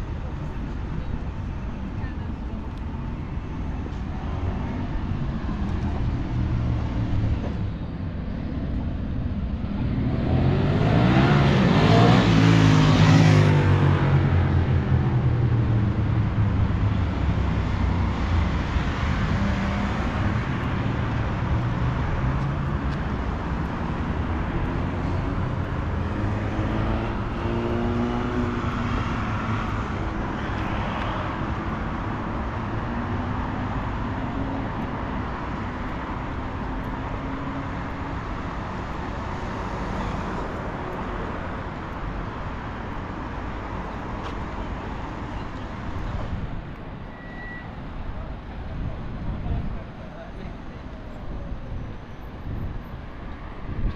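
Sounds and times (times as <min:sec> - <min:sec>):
traffic passing: 0:00.0 - 0:53.9.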